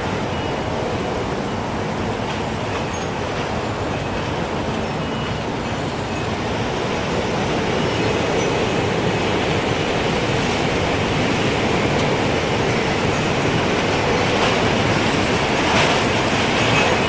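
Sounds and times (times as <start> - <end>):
strong wind gusts: 0.0 - 17.0.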